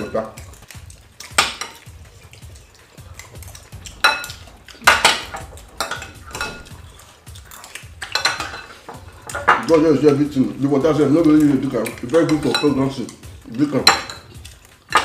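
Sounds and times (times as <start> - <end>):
utensils clinking against dishes: 0.0 - 15.0.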